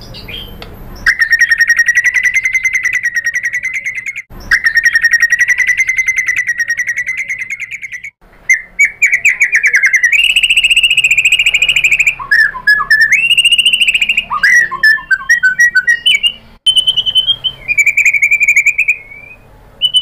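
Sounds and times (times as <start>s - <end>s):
bird singing fast trills: 0.0s - 20.0s
bird whistling short notes: 1.0s - 20.0s.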